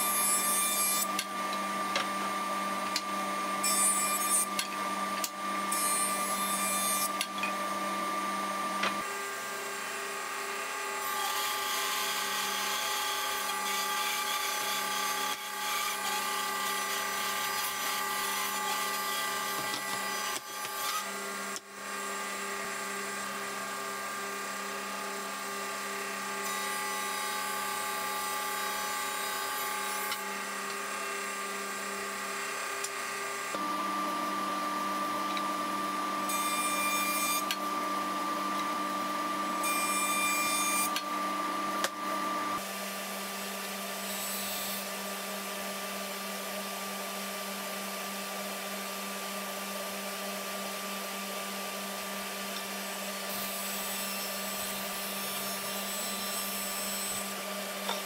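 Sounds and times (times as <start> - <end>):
electric power tool on wood: 0.0 - 58.0.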